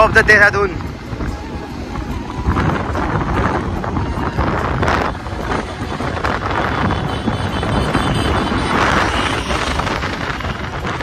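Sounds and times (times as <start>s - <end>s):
road noise: 0.0s - 11.0s
wind rush on microphone: 0.0s - 11.0s
motorcycle engine: 0.8s - 11.0s.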